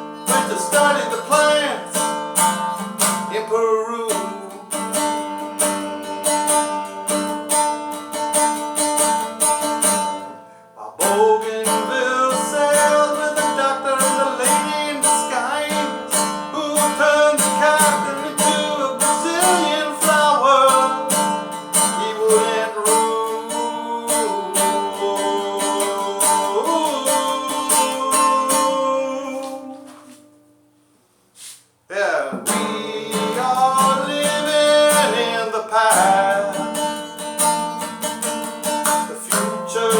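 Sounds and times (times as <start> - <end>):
man singing: 0.0 - 5.2, 10.1 - 30.2, 31.9 - 37.2, 38.0 - 39.9
acoustic guitar strumming: 0.0 - 39.9.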